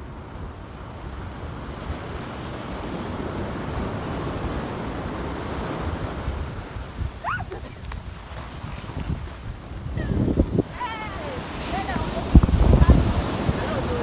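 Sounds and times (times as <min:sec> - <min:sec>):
sea waves washing ashore: 0:00.0 - 0:14.0
wind buffeting microphone: 0:00.0 - 0:14.0.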